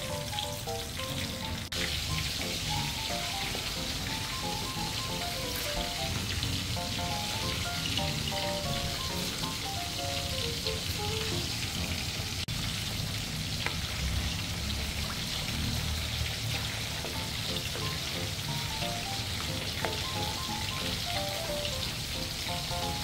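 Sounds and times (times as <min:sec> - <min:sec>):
light background music: 0:00.0 - 0:12.4, 0:16.7 - 0:23.0
oil sizzling and crackling: 0:00.0 - 0:23.0.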